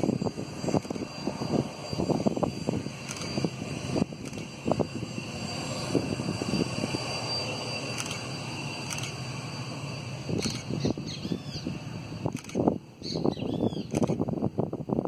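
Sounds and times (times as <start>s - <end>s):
jet engines high whine: 0.0s - 15.0s.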